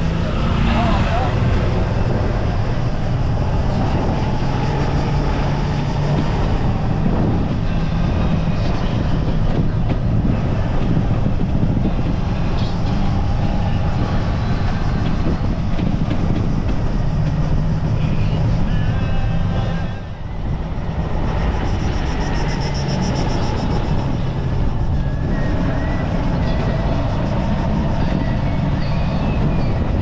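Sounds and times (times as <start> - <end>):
engine rumbling: 0.0 - 30.0.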